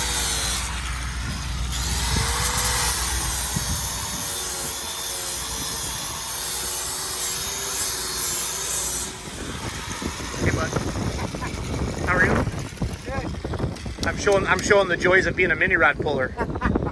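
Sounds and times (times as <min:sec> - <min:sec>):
tool rasping rubber: 0:00.0 - 0:14.6.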